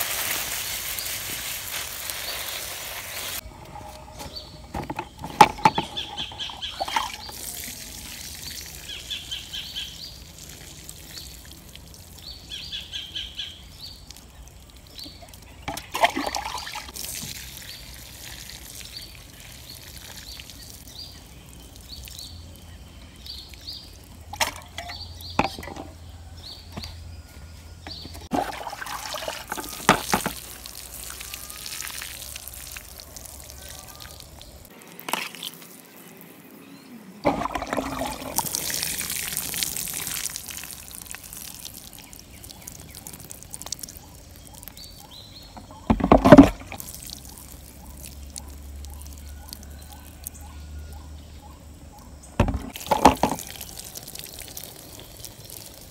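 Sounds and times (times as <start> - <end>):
water trickling onto soil: 0.0 - 3.4, 5.5 - 25.5, 27.9 - 36.6, 37.2 - 50.5, 52.7 - 55.9.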